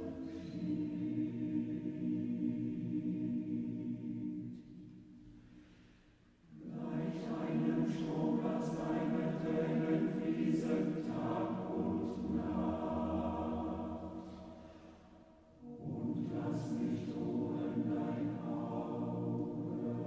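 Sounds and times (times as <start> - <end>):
choir singing: 0.0 - 5.1, 6.5 - 20.0.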